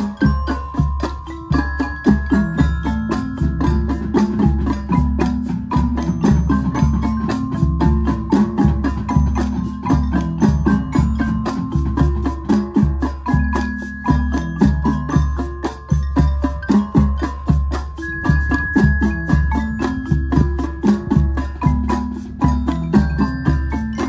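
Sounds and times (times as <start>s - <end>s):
marimbas playing fast notes: 0.0s - 24.0s.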